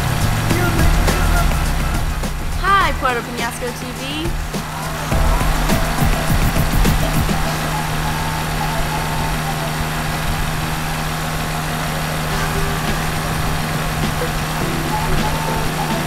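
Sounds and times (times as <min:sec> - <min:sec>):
aircraft engine drone: 0:00.0 - 0:16.0
rushing air: 0:00.0 - 0:16.0.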